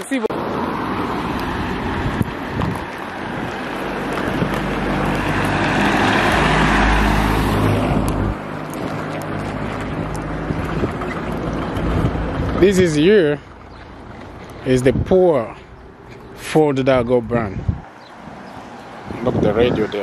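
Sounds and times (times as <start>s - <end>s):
vehicle passing: 0.0s - 20.0s
wind buffeting microphone: 0.6s - 20.0s.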